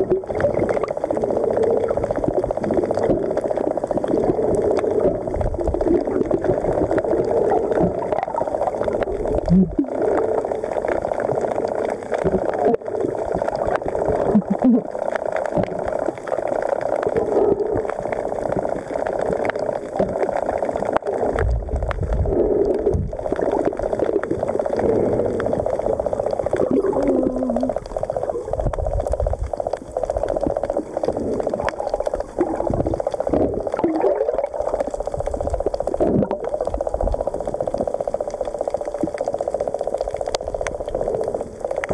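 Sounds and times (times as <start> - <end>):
underwater gurgling: 0.0 - 41.9.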